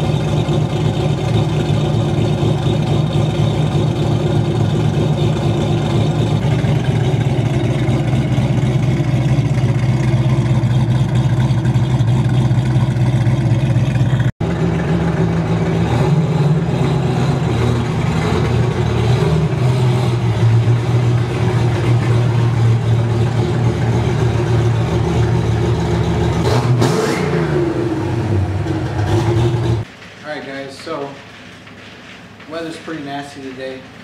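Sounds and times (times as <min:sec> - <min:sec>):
car engine running: 0:00.0 - 0:29.9.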